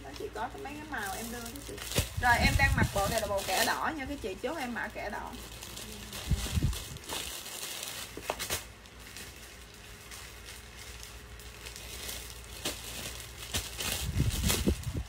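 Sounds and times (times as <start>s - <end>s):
cloth rustling: 0.0s - 15.0s.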